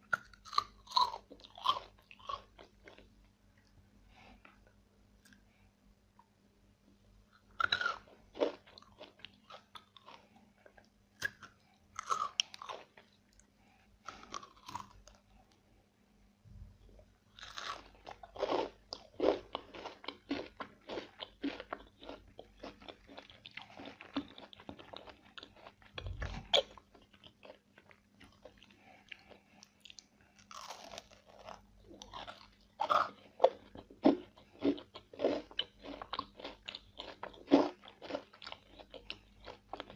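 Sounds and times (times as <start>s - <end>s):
crunchy chewing: 0.0s - 3.1s, 7.3s - 13.5s, 14.1s - 15.2s, 17.4s - 39.9s.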